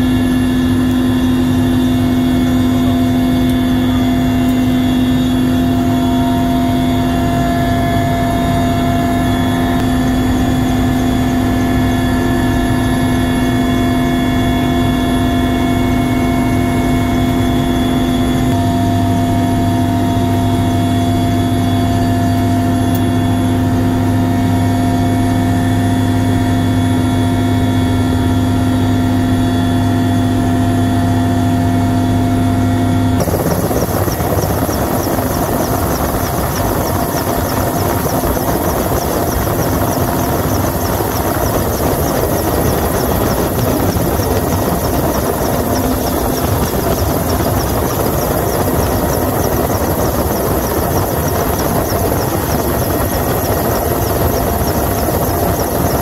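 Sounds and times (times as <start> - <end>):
helicopter engines and rotor drone: 0.0 - 56.0.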